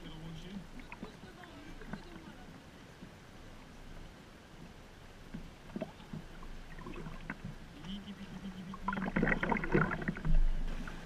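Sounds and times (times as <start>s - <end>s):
paddle splashes: 0.0s - 11.0s
water lapping around kayaks: 0.0s - 11.0s.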